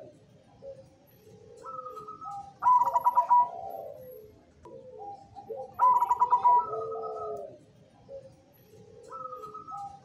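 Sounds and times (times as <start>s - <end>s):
dove cooing: 0.0s - 10.0s.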